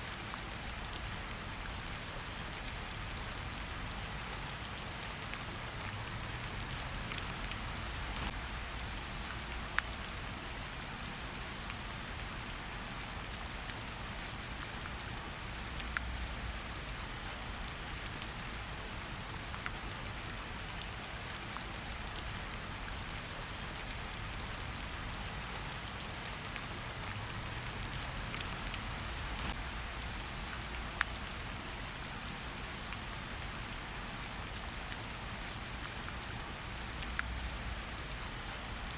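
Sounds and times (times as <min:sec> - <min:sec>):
heavy rain falling: 0:00.2 - 0:38.9.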